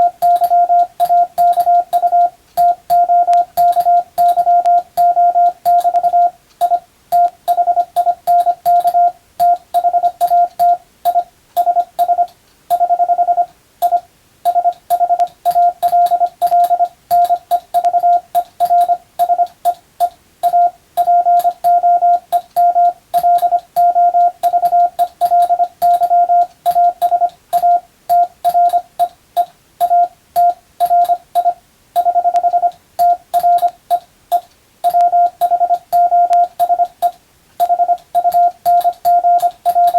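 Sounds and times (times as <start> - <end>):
morse code beeps: 0.0 - 29.2, 29.8 - 39.9.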